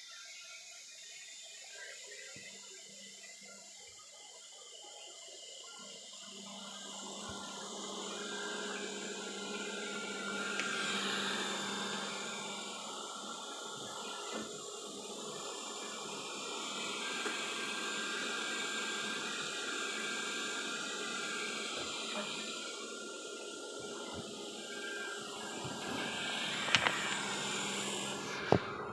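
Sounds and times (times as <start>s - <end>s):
robot vacuum motor hum: 0.0s - 28.9s.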